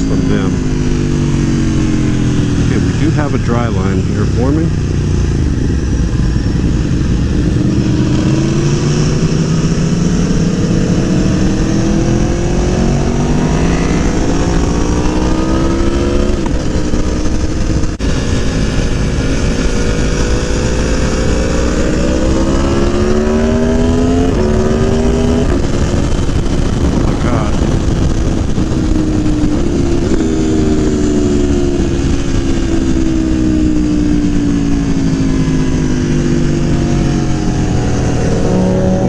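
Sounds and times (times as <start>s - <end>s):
motorcycle engine revving: 0.0s - 39.0s
wind rushing: 0.0s - 39.0s.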